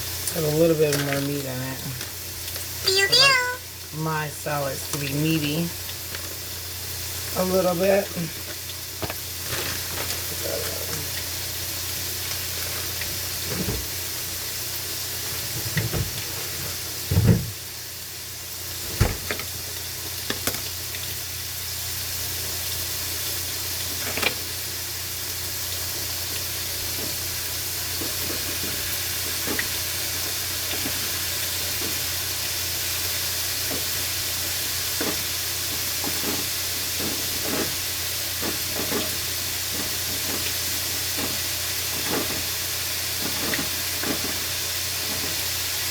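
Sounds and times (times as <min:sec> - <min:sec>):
chicken sizzling in a pan: 0:00.0 - 0:45.9.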